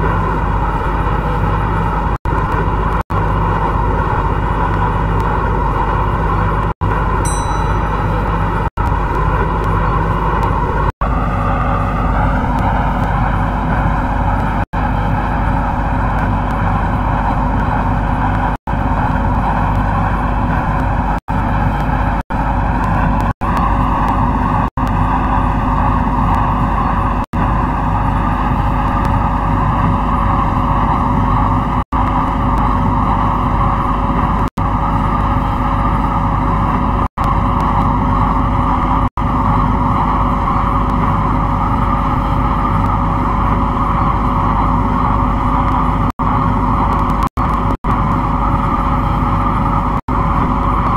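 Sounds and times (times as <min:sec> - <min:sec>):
train rumbling with rising whine: 0:00.0 - 0:50.9.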